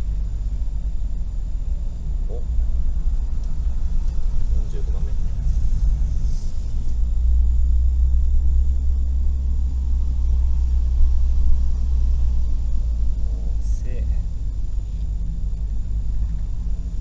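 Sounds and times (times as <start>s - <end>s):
van interior road rumble: 0.0s - 17.0s.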